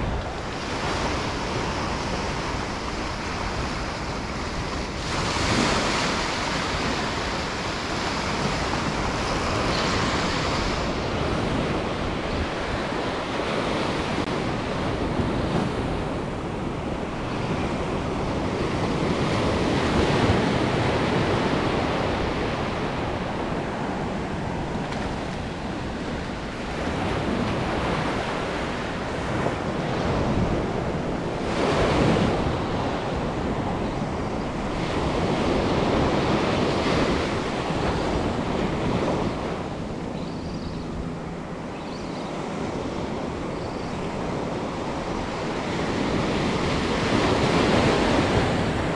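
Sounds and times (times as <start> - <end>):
ocean surf washing on shore: 0.0 - 48.9
wind on microphone: 0.0 - 48.9.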